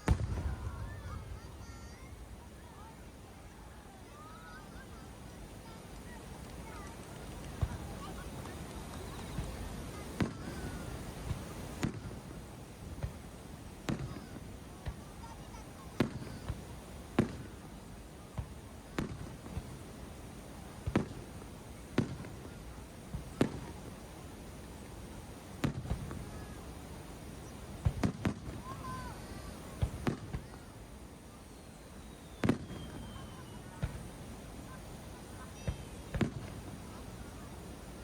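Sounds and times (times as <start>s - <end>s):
fireworks shells booming: 0.0s - 2.4s, 5.6s - 30.7s, 32.2s - 37.4s.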